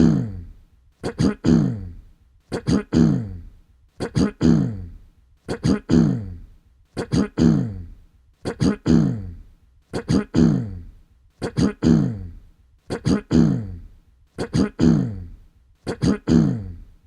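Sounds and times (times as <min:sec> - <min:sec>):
person clearing their throat: 0:00.0 - 0:06.4, 0:07.0 - 0:16.9.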